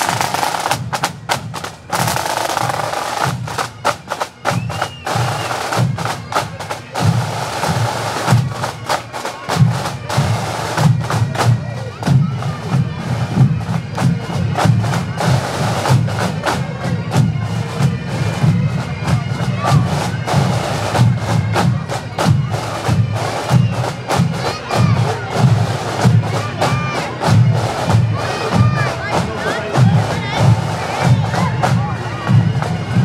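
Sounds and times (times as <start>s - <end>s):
bagpipes playing a march: 0.0s - 33.0s
marching drums beat: 0.0s - 33.0s.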